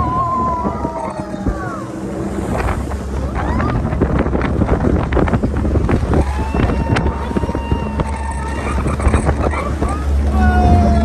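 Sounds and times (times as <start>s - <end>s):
speedboat motor drone: 0.0s - 11.0s
wind buffeting microphone: 0.0s - 11.0s.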